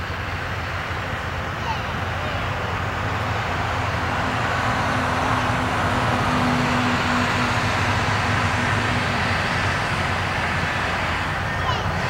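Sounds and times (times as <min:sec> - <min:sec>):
distant jet engines roaring: 0:00.0 - 0:12.0.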